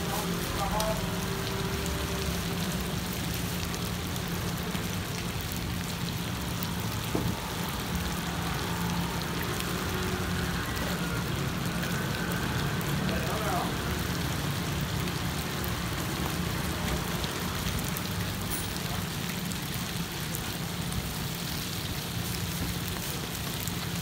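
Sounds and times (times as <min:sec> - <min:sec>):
buns sizzling in oil: 0:00.0 - 0:24.0.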